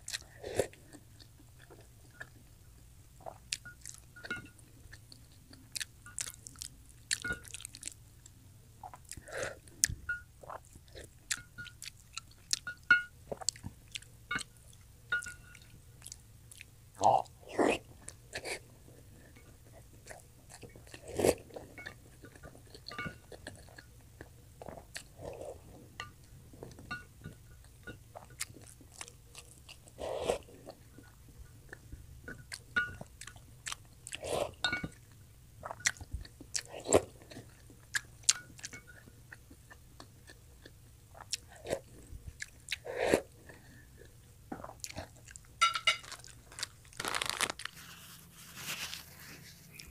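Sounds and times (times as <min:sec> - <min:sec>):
person chewing with wet smacks: 0:00.0 - 0:02.4, 0:03.2 - 0:47.8.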